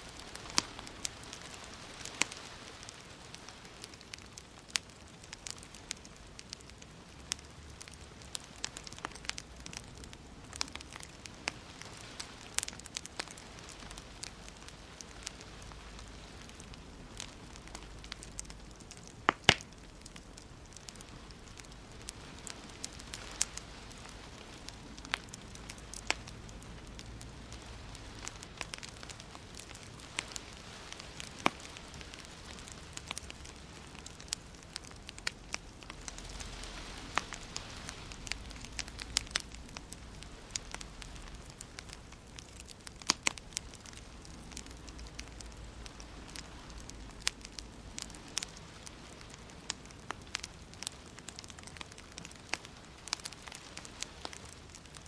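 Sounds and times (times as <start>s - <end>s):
steady low hiss: 0.0s - 55.0s
wood fire crackling and popping: 0.0s - 55.0s.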